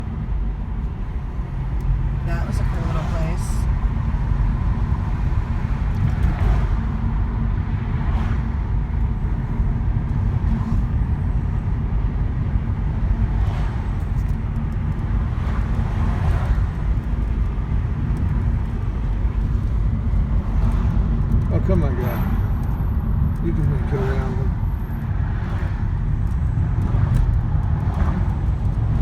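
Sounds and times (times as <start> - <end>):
car engine rumble: 0.0 - 29.0
road noise: 0.0 - 29.0.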